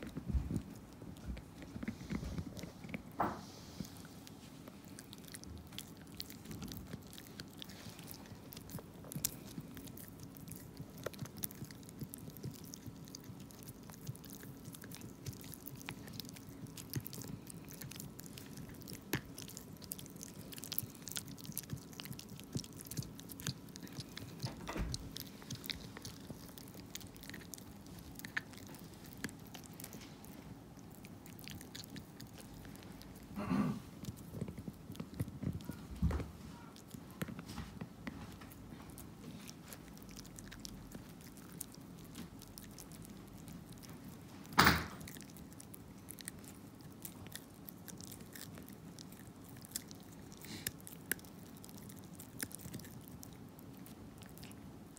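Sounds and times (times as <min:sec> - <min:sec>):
dogs gnawing chew sticks: 0:00.0 - 0:54.9
faint low hum: 0:00.0 - 0:54.9.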